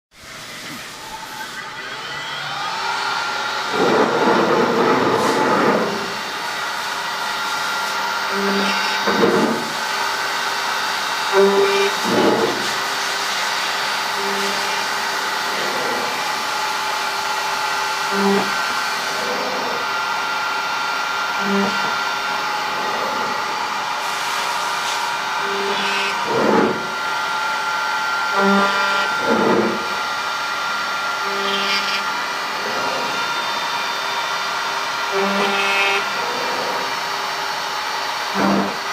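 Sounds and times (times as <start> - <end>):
router spindle whine: 0.3 - 38.9.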